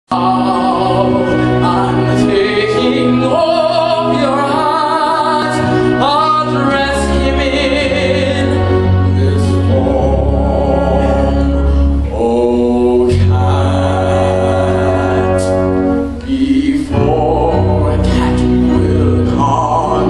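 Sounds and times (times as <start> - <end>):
low sustained bass notes: 0.1 - 20.0
orchestral accompaniment: 0.1 - 20.0
voices singing with vibrato: 0.1 - 20.0.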